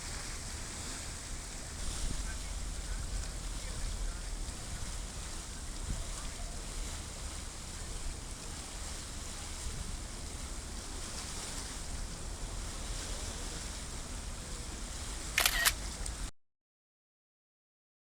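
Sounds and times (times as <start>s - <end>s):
distant traffic: 0.0s - 16.3s
water washing: 0.0s - 16.3s
wind buffeting microphone: 0.0s - 16.3s.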